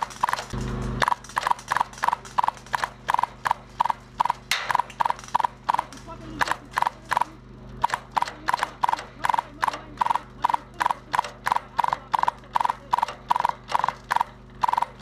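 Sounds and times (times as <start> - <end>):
low engine hum: 0.0 - 15.0
regular clicking: 0.0 - 15.0.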